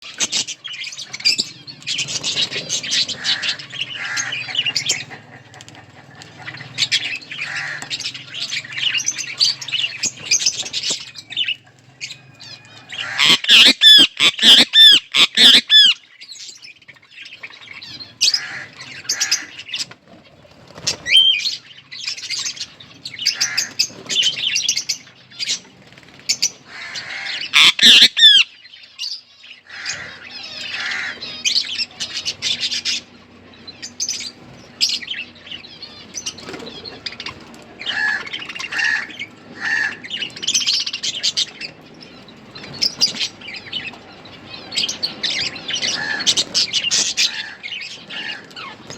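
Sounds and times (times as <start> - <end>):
budgerigars squawking: 0.0 - 16.0, 17.5 - 19.9, 20.9 - 25.7, 26.3 - 48.9
budgerigars chirping and chattering: 0.0 - 48.9.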